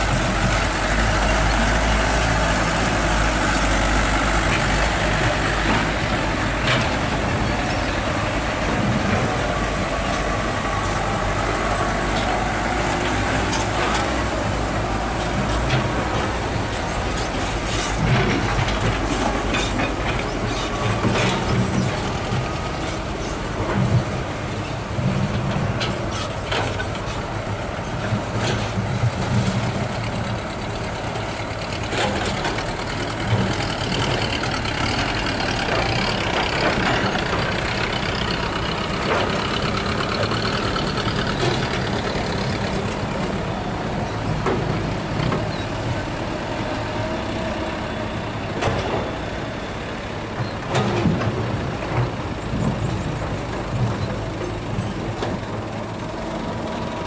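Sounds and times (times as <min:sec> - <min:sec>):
diesel truck engine drone: 0:00.0 - 0:57.0.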